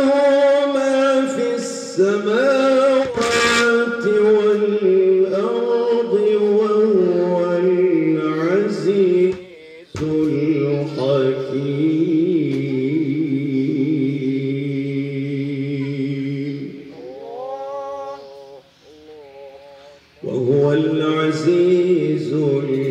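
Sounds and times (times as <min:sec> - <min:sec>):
man chanting melodic recitation: 0:00.0 - 0:22.9.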